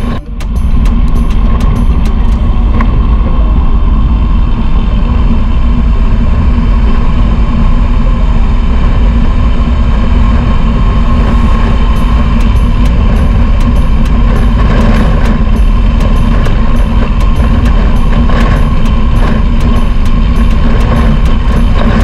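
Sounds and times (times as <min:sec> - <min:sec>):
motorcycle engine low rumble: 0:00.0 - 0:22.0
road and wind rush: 0:00.0 - 0:22.0.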